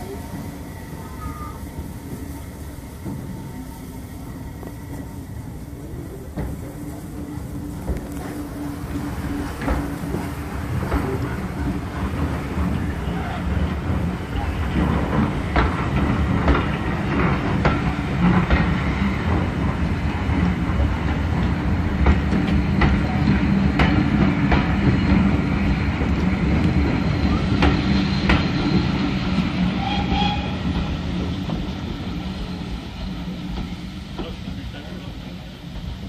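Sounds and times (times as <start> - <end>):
train rumble: 0.0 - 36.0
train wheels clicking over joints: 5.8 - 36.0.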